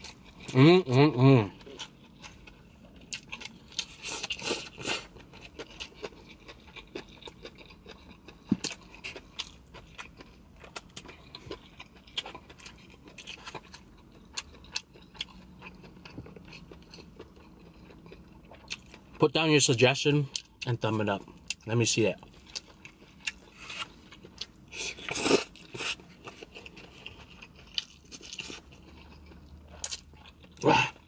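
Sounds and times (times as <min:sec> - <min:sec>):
chewing noodles: 0:01.5 - 0:19.2, 0:22.3 - 0:31.0.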